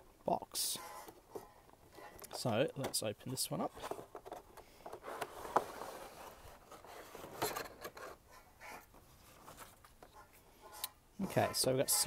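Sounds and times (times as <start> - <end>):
packaging rustling and scraping: 0.8 - 12.0.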